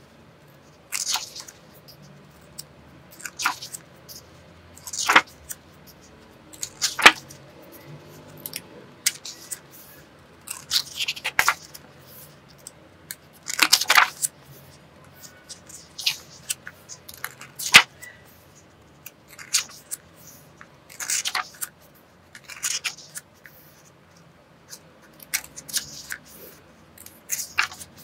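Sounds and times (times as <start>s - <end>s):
paper pages turning: 0.9s - 28.0s.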